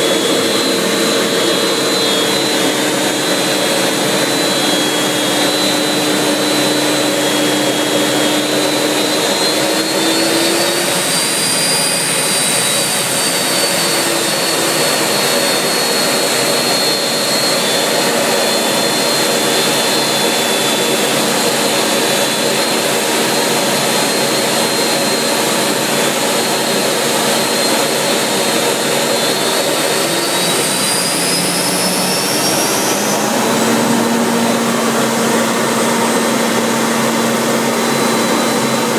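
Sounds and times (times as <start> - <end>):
jet engine whine from cockpit: 0.0 - 38.9.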